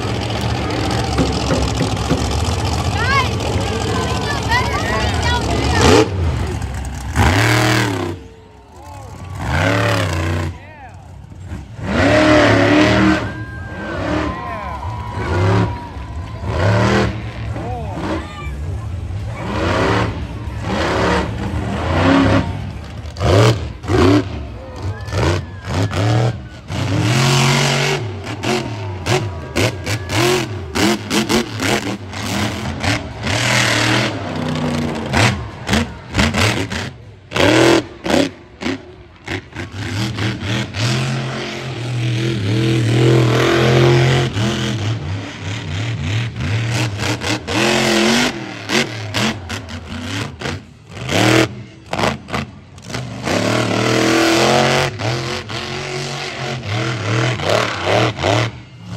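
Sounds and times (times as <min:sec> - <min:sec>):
monster truck engines revving: 0:00.0 - 0:58.9.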